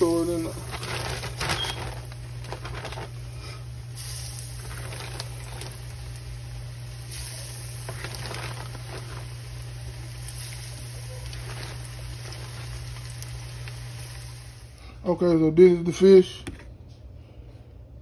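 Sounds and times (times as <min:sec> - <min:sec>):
fish sizzling in hot grease: 0:00.0 - 0:14.8
steady low hum: 0:00.0 - 0:18.0.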